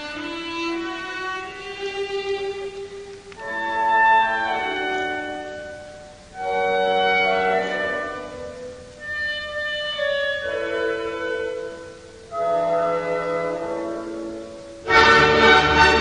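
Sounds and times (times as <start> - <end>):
classical string music: 0.0 - 16.0.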